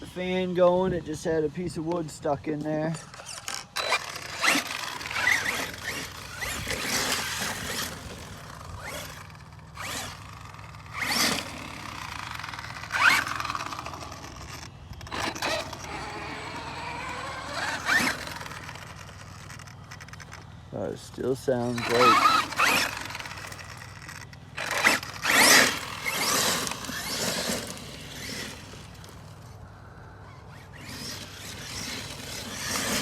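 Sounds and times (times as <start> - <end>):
electric motor whining: 3.0 - 20.5, 21.6 - 29.5, 30.1 - 33.0.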